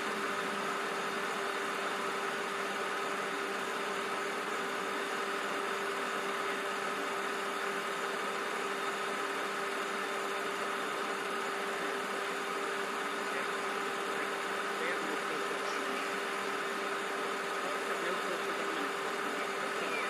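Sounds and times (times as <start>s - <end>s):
machine-like hum: 0.0s - 20.0s.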